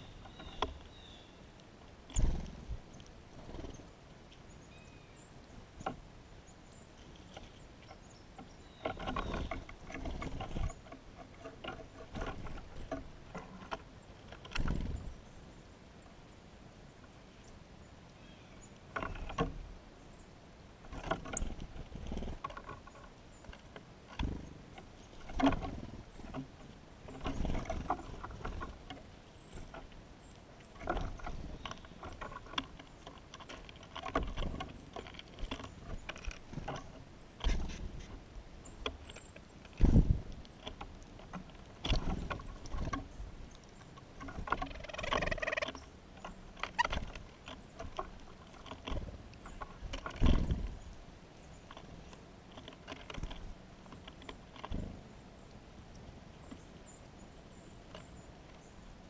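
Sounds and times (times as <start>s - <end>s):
birds scuffling and tapping: 0.0s - 15.4s, 17.0s - 59.0s.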